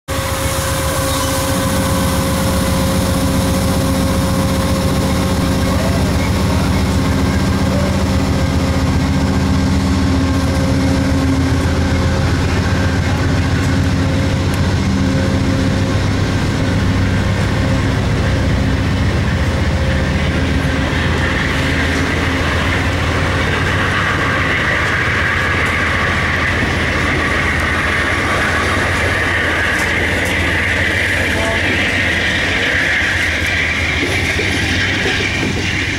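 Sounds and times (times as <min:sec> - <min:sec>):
train cars rolling on rails: 0:00.1 - 0:35.9
steady low hum: 0:00.2 - 0:34.0.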